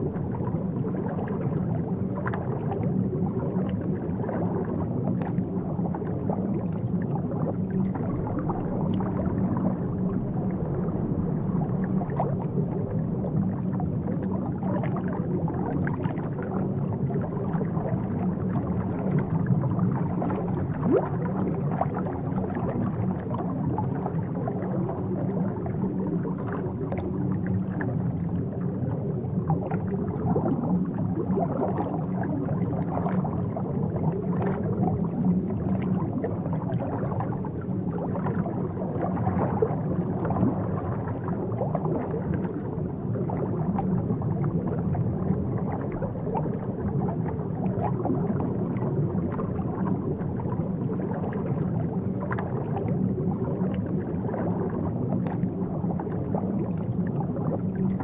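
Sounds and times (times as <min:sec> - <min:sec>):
bubbling and gurgling: 0:00.0 - 0:58.0
underwater rumble: 0:00.0 - 0:58.0.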